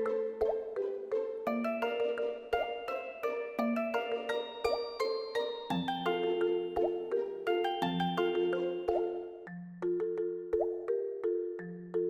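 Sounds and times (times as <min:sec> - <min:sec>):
upbeat mallet melody music: 0:00.0 - 0:12.0.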